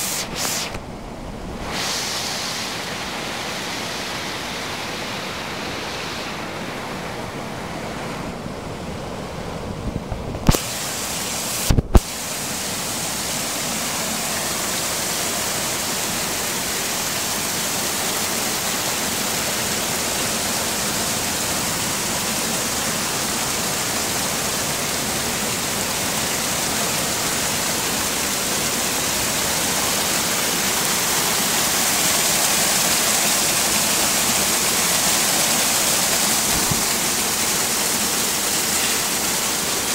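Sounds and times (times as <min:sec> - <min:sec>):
spring water rushing and splashing: 0:00.0 - 0:09.6, 0:10.4 - 0:39.9.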